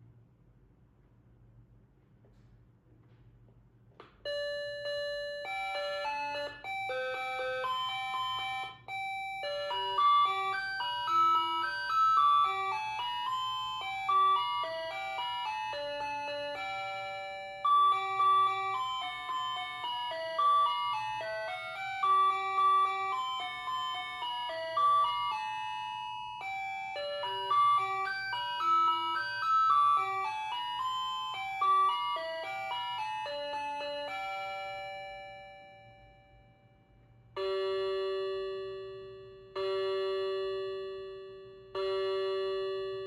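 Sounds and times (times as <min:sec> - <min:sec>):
electronic clock chime melody: 0:04.3 - 0:43.0.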